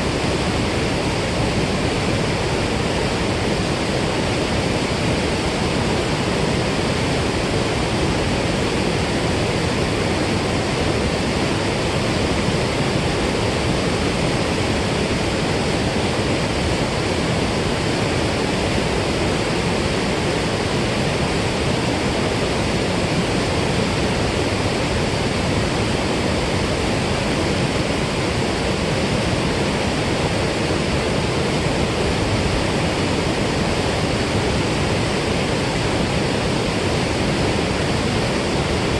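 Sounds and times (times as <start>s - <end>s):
water rushing through spillway: 0.0s - 38.9s.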